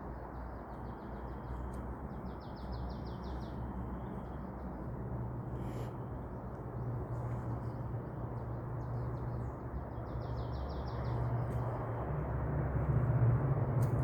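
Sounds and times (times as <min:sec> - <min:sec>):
small songbirds chirping: 0:00.0 - 0:12.3.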